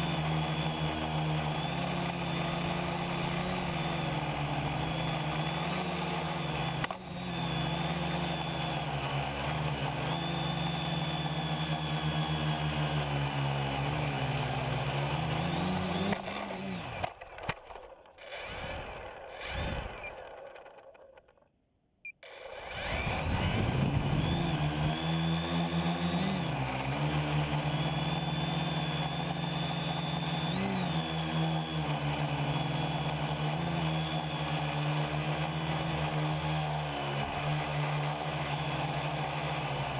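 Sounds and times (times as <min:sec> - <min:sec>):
quadcopter propellers whining: 0:00.0 - 0:21.4, 0:22.1 - 0:39.9.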